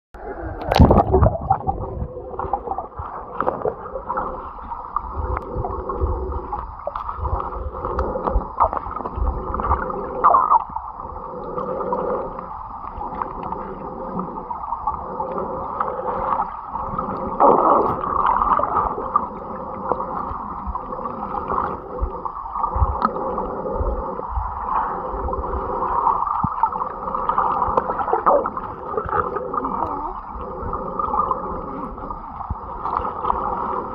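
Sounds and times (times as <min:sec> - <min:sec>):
low rumbles of current: 0:00.2 - 0:33.9
muffled underwater stream rushing: 0:00.2 - 0:33.9.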